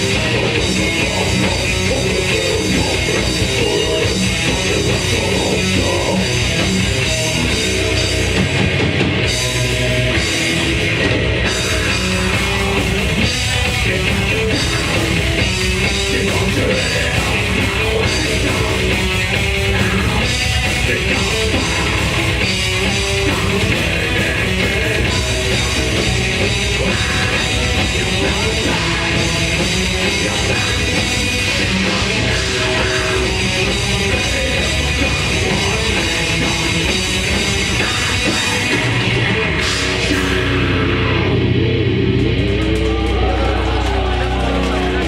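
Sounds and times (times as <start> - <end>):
death metal band playing live: 0.0 - 45.0
drum kit: 0.0 - 45.0.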